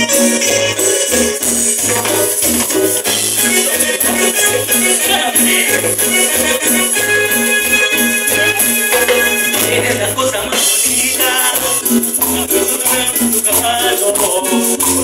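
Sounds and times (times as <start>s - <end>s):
bass line: 0.0s - 15.0s
keyboard melody: 0.0s - 15.0s
shaker rhythm: 0.0s - 15.0s.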